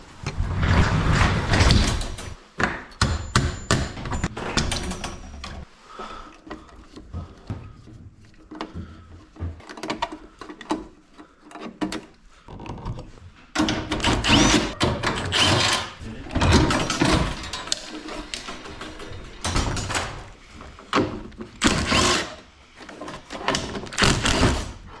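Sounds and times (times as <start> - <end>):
hand tools clunking and clicking: 1.5 - 22.0.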